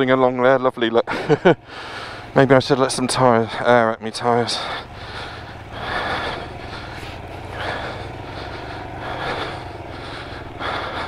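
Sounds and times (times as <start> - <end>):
motorcycle engine at low revs: 1.0 - 11.0
noisy rush: 1.1 - 11.0.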